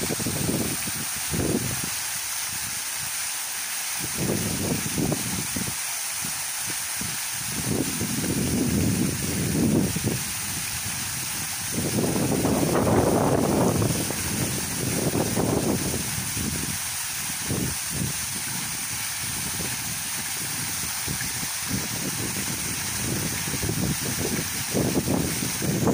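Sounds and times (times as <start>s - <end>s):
wind rumbling on microphone: 0.0s - 3.1s, 4.0s - 25.9s
waterfall rushing: 0.0s - 25.9s.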